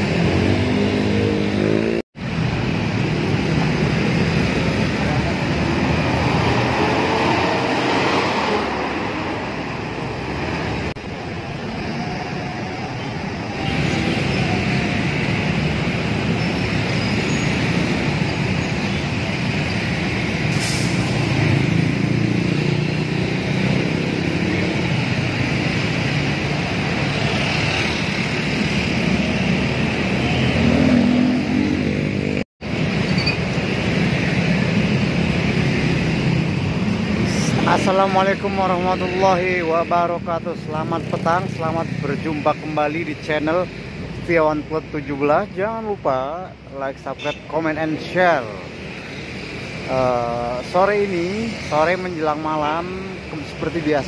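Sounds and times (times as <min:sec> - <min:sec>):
motorbikes and cars passing: 0:00.0 - 0:54.0
road traffic roar: 0:00.0 - 0:54.0
coach diesel engines running: 0:01.5 - 0:31.0, 0:31.8 - 0:54.0.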